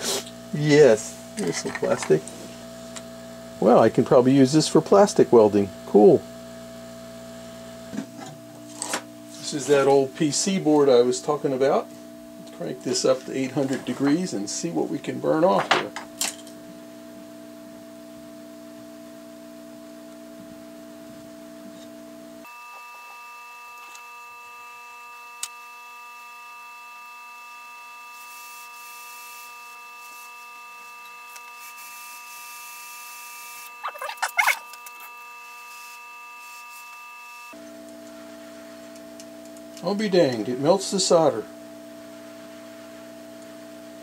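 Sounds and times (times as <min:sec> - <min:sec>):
hot air blower humming: 0:00.0 - 0:16.2, 0:21.1 - 0:44.0.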